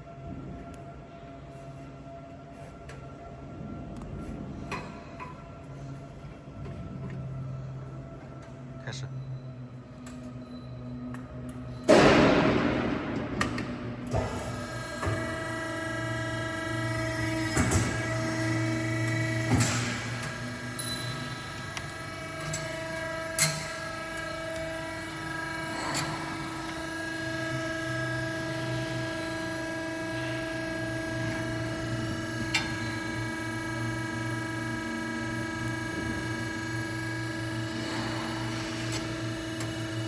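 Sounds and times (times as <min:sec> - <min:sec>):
machine motor humming drone: 0:00.0 - 0:40.0.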